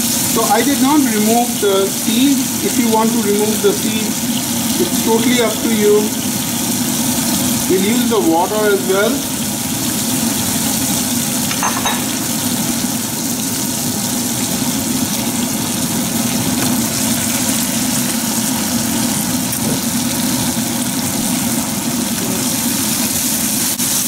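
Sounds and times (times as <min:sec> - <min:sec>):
chilies sizzling in hot oil: 0:00.0 - 0:24.0.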